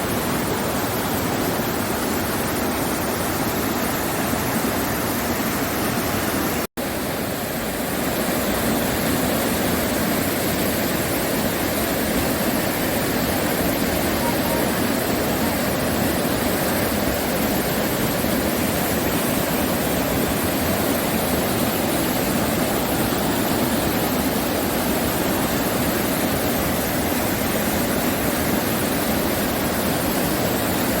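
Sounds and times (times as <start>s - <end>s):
stream rushing: 0.0s - 31.0s.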